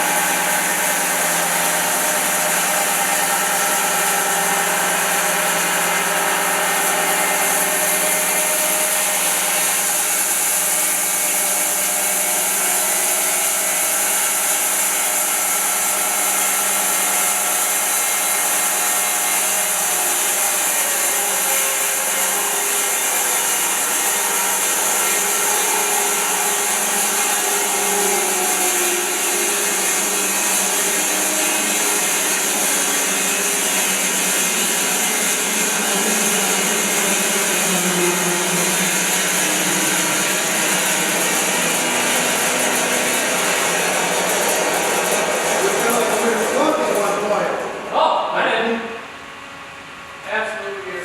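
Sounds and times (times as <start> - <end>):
bandsaw mill sawing wood: 0.0 - 51.0.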